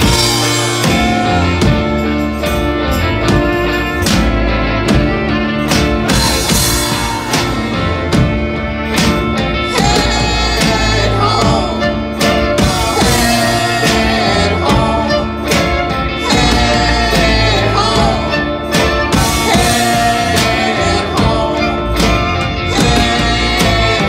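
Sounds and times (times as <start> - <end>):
drum kit: 0.0 - 24.0
electric guitars: 0.0 - 24.0.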